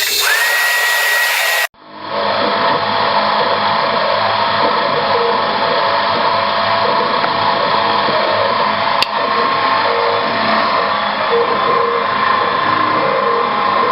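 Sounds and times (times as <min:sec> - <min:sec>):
machining noise: 0:00.0 - 0:13.9
milling machine whine: 0:00.0 - 0:13.9.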